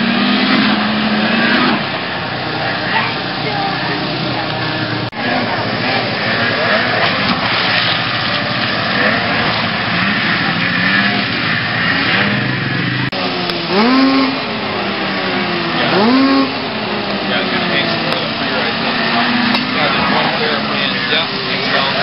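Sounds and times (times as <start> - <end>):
crowd voices: 0.0 - 22.0
small engine revving: 0.0 - 22.0
snowmobile engines running: 0.0 - 22.0.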